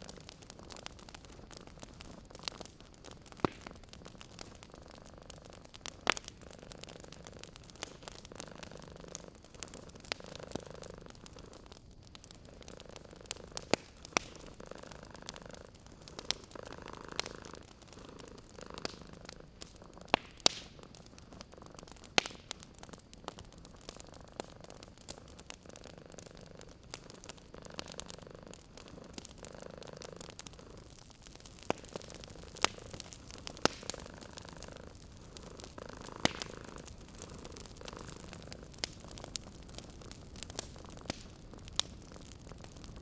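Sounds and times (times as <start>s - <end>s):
cat purring: 0.0s - 23.0s, 23.6s - 42.6s
wood fire crackling and popping: 0.0s - 43.0s.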